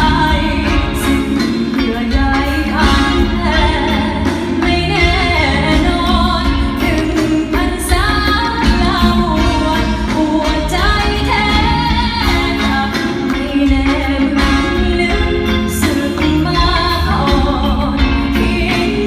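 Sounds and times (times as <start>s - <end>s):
pop music accompaniment: 0.0s - 19.0s
woman singing into a microphone: 0.0s - 19.0s.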